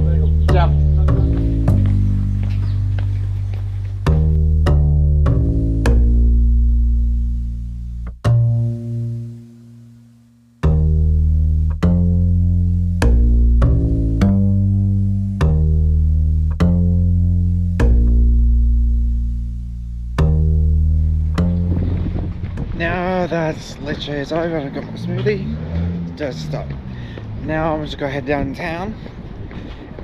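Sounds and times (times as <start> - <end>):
plucked low string notes: 0.0 - 27.8.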